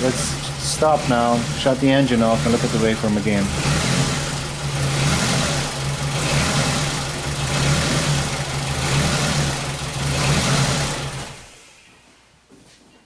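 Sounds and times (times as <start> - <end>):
car engine idling with misfire: 0.0 - 11.7.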